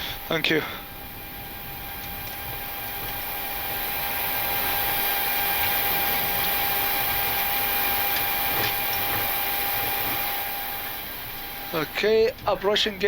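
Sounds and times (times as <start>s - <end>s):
jet engines idling hiss: 0.0s - 13.0s
steady whine: 0.0s - 13.0s.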